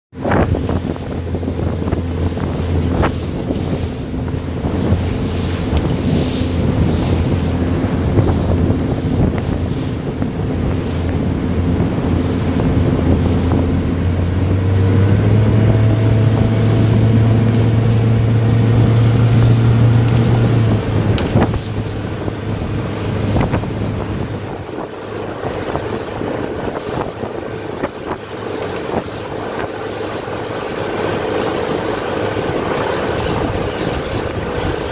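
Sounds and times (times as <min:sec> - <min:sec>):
boat engine running: 0:00.1 - 0:34.9
wind buffeting microphone: 0:00.1 - 0:34.9.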